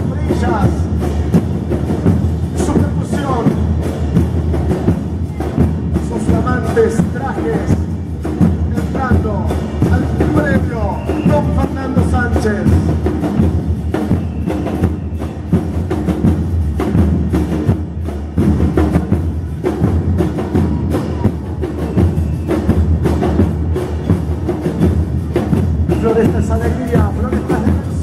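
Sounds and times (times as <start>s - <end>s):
bass drums: 0.0s - 28.0s
cymbals: 0.0s - 28.0s
snare drums: 0.0s - 28.0s.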